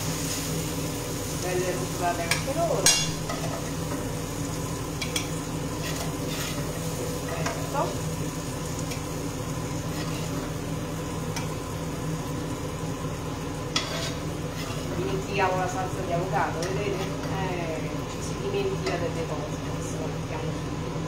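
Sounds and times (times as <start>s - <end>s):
vegetables sizzling in a frying pan: 0.0s - 21.0s.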